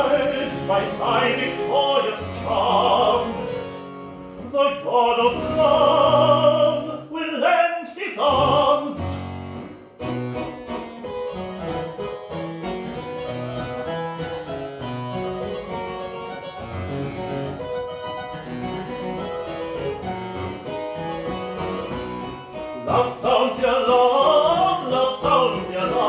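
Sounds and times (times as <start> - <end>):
solo harpsichord playing: 0.0 - 4.4, 8.4 - 26.0.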